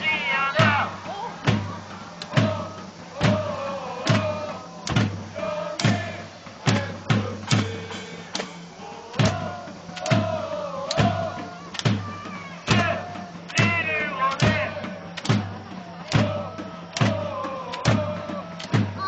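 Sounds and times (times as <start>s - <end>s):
bass drum beating: 0.0s - 19.0s
crowd singing a chant: 0.0s - 19.0s.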